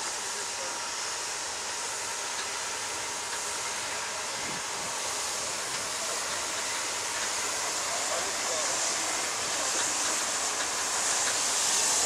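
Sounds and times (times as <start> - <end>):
hiss of steam: 0.0 - 12.0
steam locomotives rolling past: 0.0 - 12.0.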